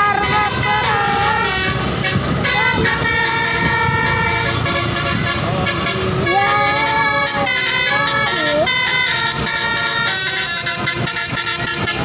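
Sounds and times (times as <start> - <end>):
bus engine rumble: 0.0 - 12.0
multi-tone air horn tune: 0.0 - 12.0.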